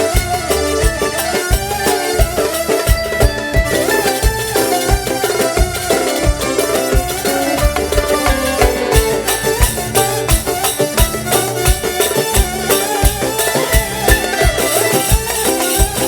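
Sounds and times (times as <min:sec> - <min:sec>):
folk band playing melody: 0:00.0 - 0:16.0
steady drum beat: 0:00.0 - 0:16.0.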